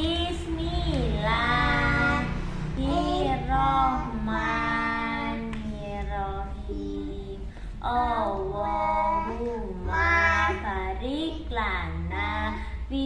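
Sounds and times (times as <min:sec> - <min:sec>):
woman and child singing: 0:00.0 - 0:13.0.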